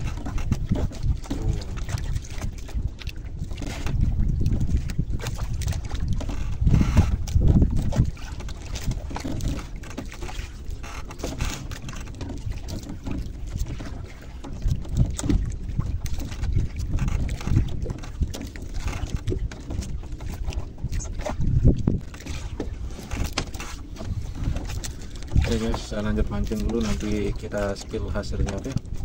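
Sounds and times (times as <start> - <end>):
water sloshing against hull: 0.0 - 29.0
wind buffeting microphone: 0.0 - 29.0.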